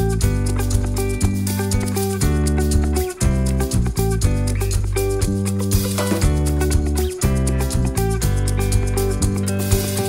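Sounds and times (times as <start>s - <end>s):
light shaker percussion: 0.0s - 10.0s
plucked guitar chords: 0.0s - 10.0s.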